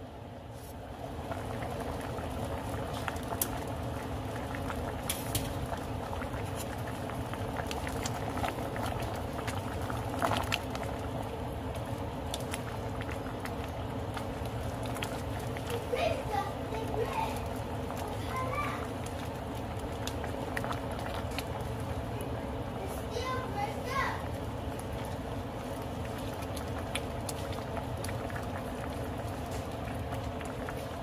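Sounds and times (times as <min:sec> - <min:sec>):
soup boiling in a pot: 0:00.0 - 0:31.0.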